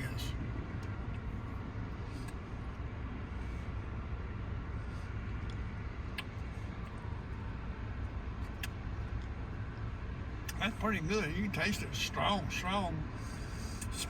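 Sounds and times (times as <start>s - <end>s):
vehicle idling rumble: 0.0s - 14.0s.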